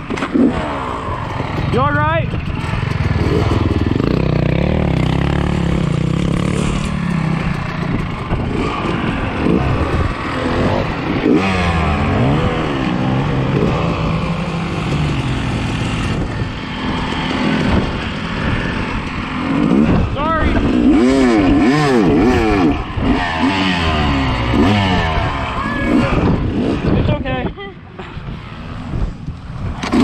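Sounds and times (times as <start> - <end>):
dirt bike engine revving: 0.0 - 27.5, 29.7 - 30.0.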